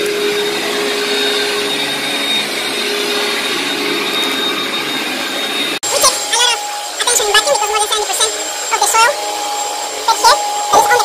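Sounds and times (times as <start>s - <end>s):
vacuum cleaner running on carpet: 0.0s - 11.0s.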